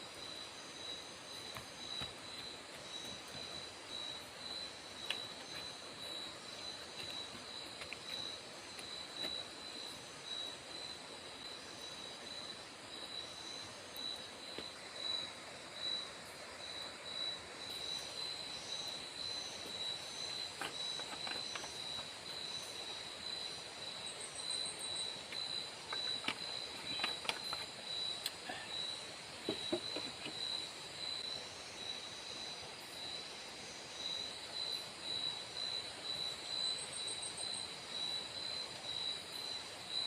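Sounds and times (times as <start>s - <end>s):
constant hiss: 0.0s - 40.0s
insects trilling: 0.0s - 40.0s.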